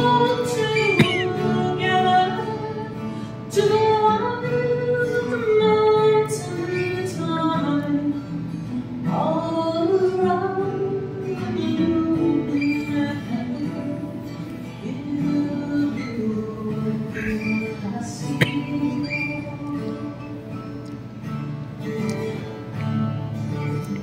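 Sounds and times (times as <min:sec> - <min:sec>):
acoustic guitar strumming: 0:00.0 - 0:24.0
woman singing folk song: 0:00.0 - 0:24.0.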